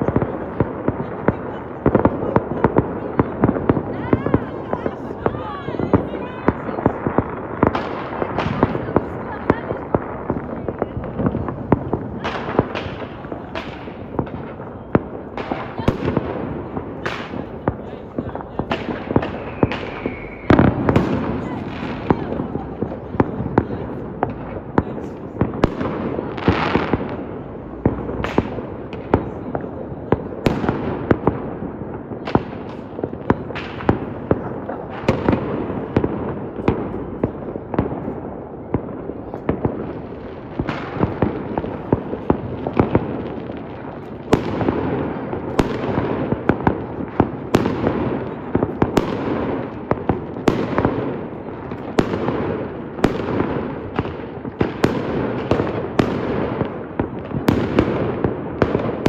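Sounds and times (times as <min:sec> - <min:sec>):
fireworks bangs: 0:00.0 - 0:59.0
fireworks crackle and rumble: 0:00.0 - 0:59.0.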